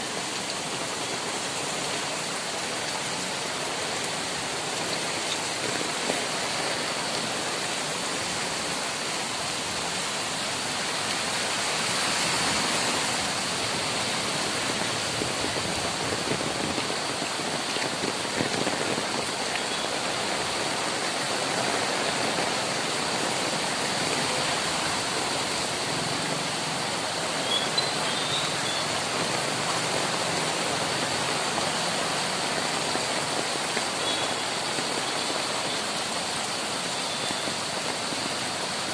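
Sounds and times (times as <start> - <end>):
heavy rain pouring: 0.0 - 38.9
rainwater running: 0.1 - 38.9.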